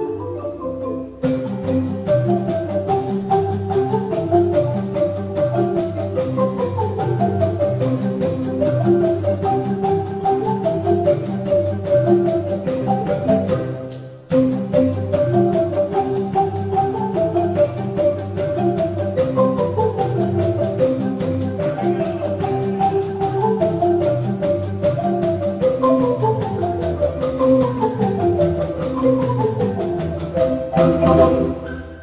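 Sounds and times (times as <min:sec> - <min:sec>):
marimbas playing: 0:00.0 - 0:32.0.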